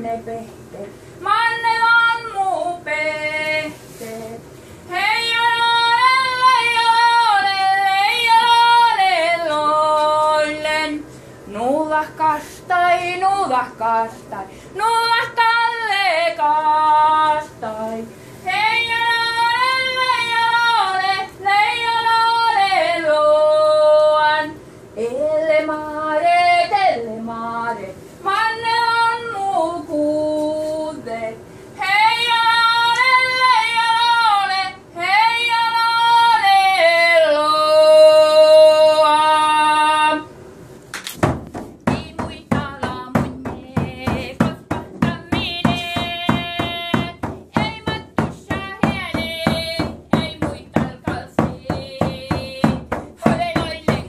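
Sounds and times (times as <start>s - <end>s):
woman singing unaccompanied: 0.0s - 40.3s, 41.8s - 54.0s.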